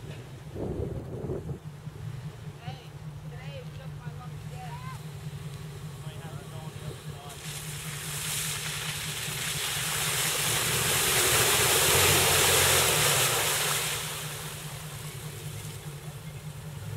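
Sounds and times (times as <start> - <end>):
car engine running: 0.0 - 16.9
tyres splashing through mud: 2.2 - 16.9.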